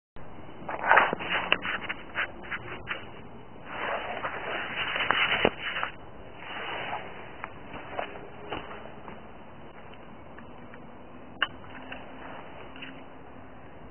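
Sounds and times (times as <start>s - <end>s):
rustling: 0.5s - 10.0s, 11.4s - 13.4s.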